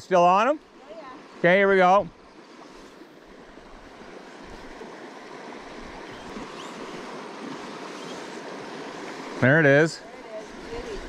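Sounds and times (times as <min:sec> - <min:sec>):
stream water rushing: 0:00.0 - 0:11.0
wind: 0:00.0 - 0:11.0.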